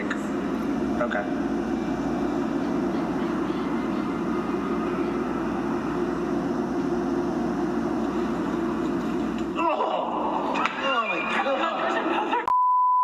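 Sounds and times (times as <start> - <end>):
low rumbling background noise: 0.0 - 12.5.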